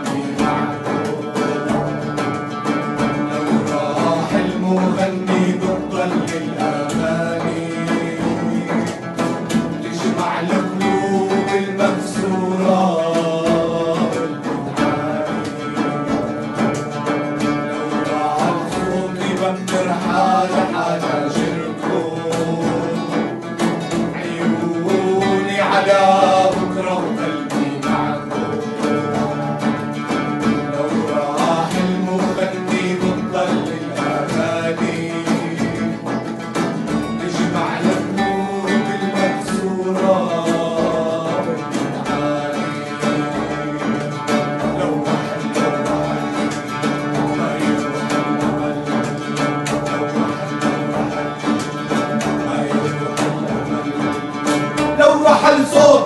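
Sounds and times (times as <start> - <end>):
men singing: 0.0 - 56.0
nylon-string guitar: 0.0 - 56.0
oud: 0.0 - 56.0.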